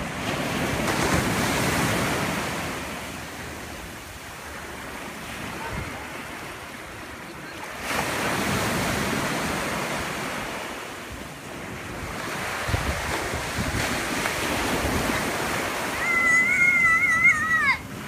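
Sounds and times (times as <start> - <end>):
ocean surf washing in: 0.0 - 18.0
wind on microphone: 0.0 - 18.0.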